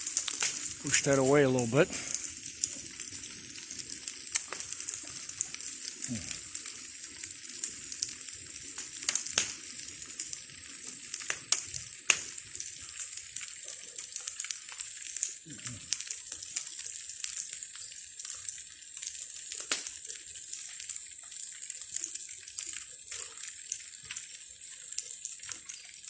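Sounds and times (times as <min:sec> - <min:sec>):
bonfire hissing: 0:00.0 - 0:26.0
fire crackles and pops: 0:00.0 - 0:26.0.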